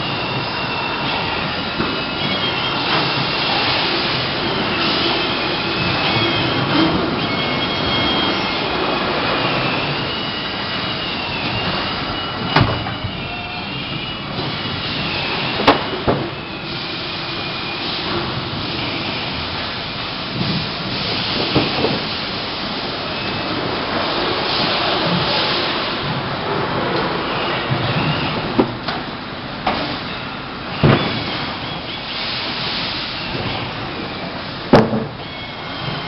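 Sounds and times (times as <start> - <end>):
assembly line machinery din: 0.0 - 36.0.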